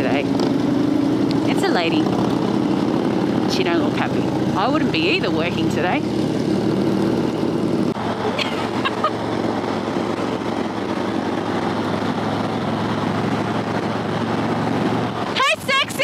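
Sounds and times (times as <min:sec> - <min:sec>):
motorcycle engine drone: 0:00.0 - 0:16.0
wind and road noise: 0:00.0 - 0:16.0.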